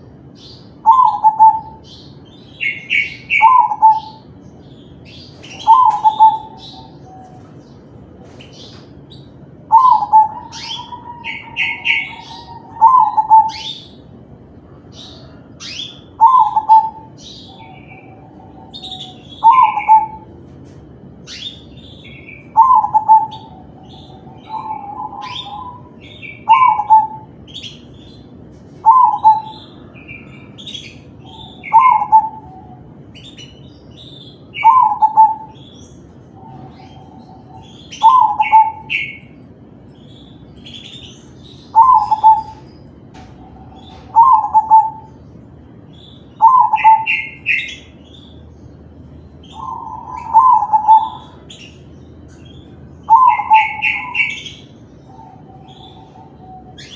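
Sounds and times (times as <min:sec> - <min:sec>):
small birds chirping: 0:00.0 - 0:56.9
dove cooing: 0:00.8 - 0:04.3, 0:05.1 - 0:20.6, 0:21.3 - 0:28.0, 0:28.7 - 0:33.4, 0:34.0 - 0:39.5, 0:41.7 - 0:45.2, 0:46.4 - 0:48.0, 0:49.4 - 0:52.4, 0:53.0 - 0:56.9.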